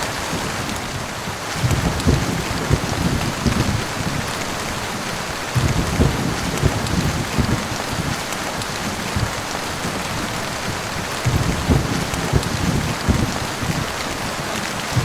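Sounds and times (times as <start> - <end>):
heavy rain falling: 0.0 - 15.0
low rumbling: 1.6 - 14.0.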